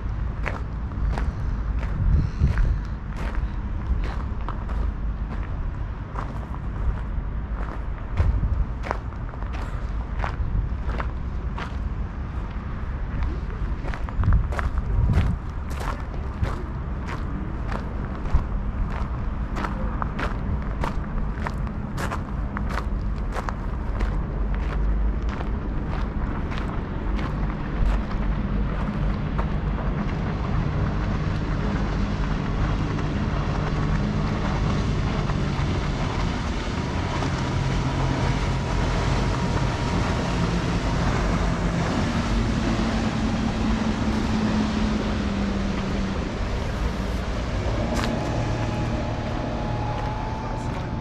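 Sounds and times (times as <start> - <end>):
motor engine drone: 0.0 - 51.0.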